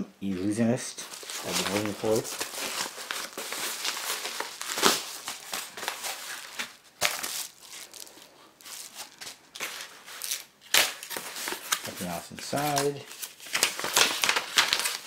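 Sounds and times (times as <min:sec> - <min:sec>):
packaging crinkling and rustling: 0:01.0 - 0:15.0
packaging ripping: 0:01.0 - 0:15.0.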